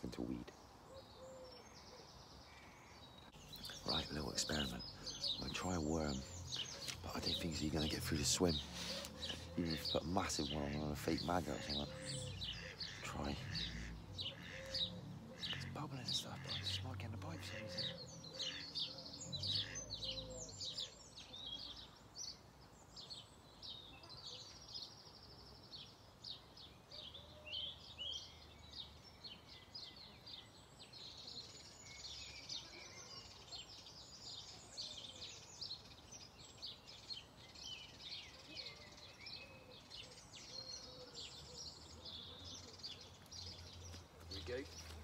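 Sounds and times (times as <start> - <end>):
faint outdoor background noise: 0.0 - 45.0
songbirds singing and chirping: 0.0 - 45.0.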